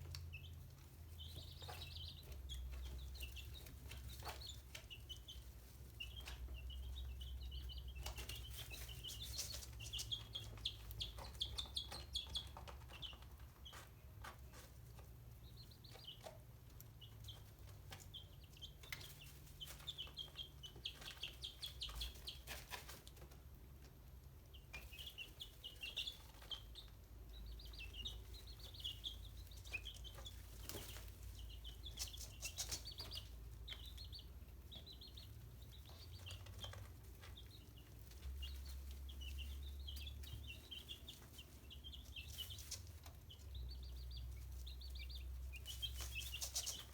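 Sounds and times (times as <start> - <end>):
chicks peeping: 0.0 - 46.9.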